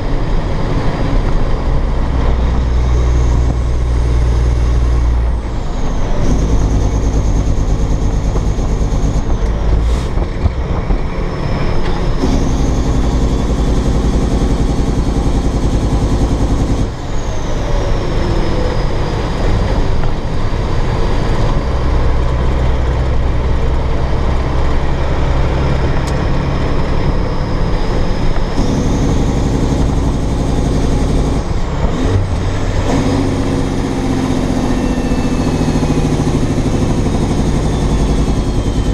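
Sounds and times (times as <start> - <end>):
truck diesel engine under load: 0.0 - 38.9.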